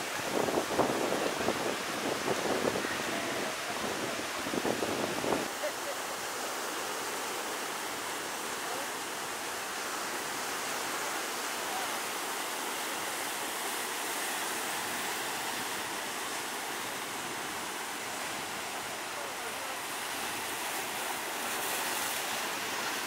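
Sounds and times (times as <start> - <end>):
water rushing: 0.0 - 23.0.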